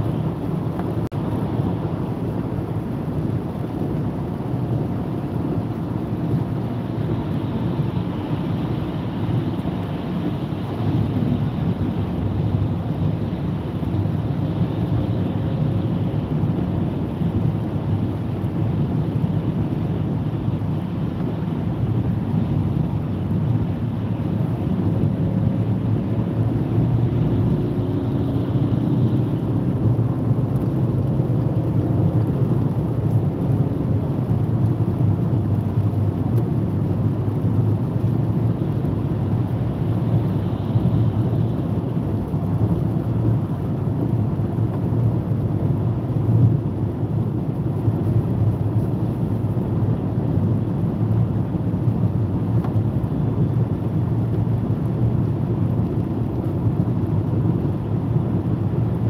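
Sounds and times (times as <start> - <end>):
car engine noise: 0.0 - 59.0
tyres on wet road: 0.0 - 59.0.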